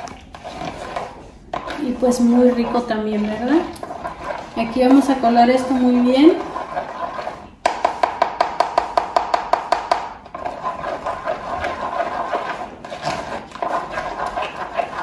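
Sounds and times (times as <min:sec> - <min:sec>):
spoon scraping colander mesh: 0:00.0 - 0:15.0.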